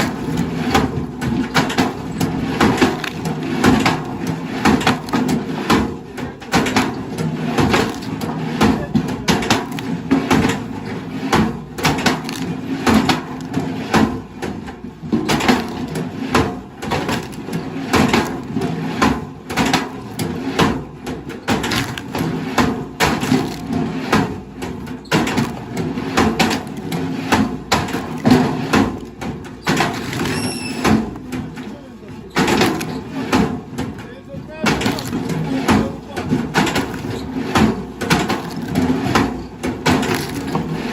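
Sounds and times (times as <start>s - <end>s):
wooden knocks and clatter: 0.0s - 40.9s.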